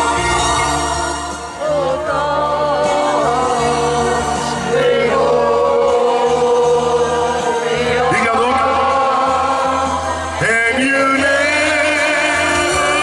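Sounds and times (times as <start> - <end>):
backing track music: 0.0 - 13.0
man singing into microphone: 0.0 - 13.0.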